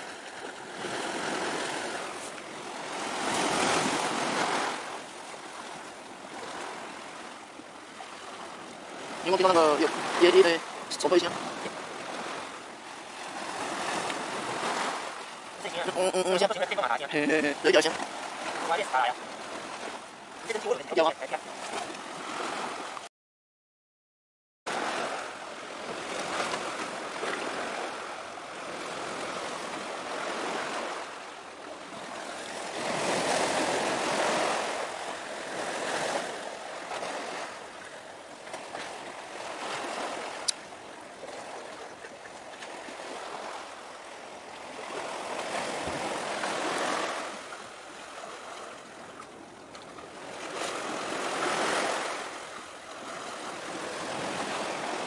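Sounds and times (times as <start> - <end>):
sea waves breaking on shore: 0.0 - 23.1, 24.7 - 55.0.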